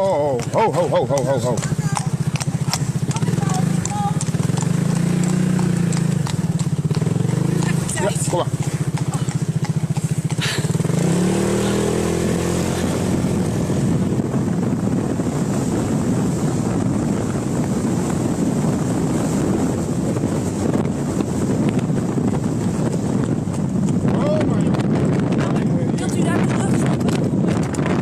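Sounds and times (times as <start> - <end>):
motorbike engine accelerating: 0.0 - 28.0
wind noise on microphone: 0.0 - 28.0.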